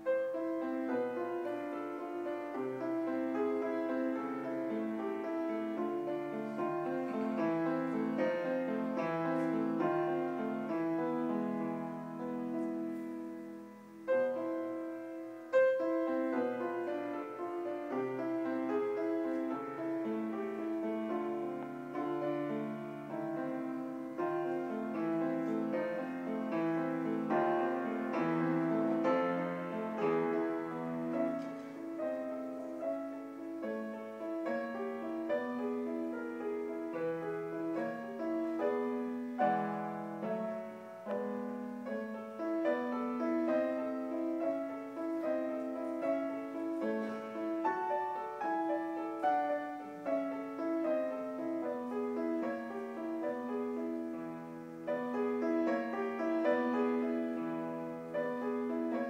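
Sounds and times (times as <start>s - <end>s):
piano playing: 0.0s - 59.0s.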